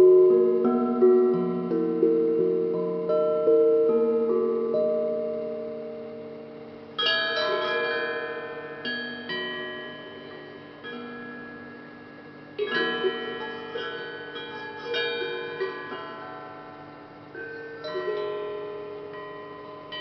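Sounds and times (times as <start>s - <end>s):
struck iron instrument notes ringing: 0.0s - 20.0s.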